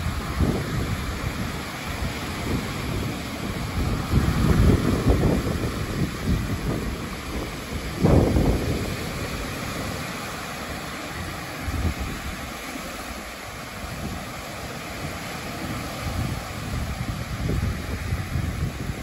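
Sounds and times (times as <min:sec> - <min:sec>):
small waves on cobble beach: 0:00.0 - 0:19.0
wind buffeting microphone: 0:00.0 - 0:19.0.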